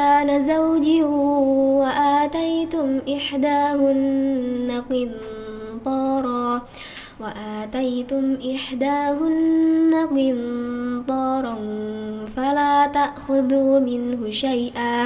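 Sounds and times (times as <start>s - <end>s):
woman reciting melodically: 0.0s - 15.0s.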